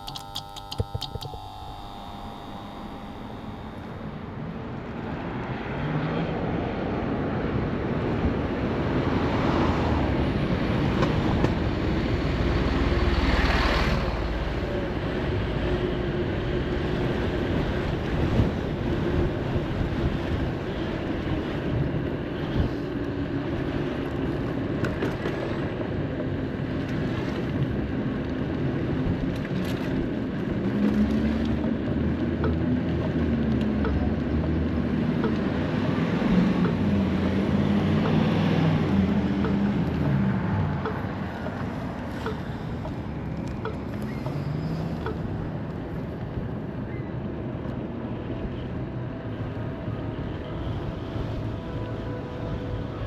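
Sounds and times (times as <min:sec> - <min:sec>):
moped road noise: 0:00.0 - 0:53.0
traffic passing: 0:02.4 - 0:53.0
wind on microphone: 0:06.3 - 0:53.0.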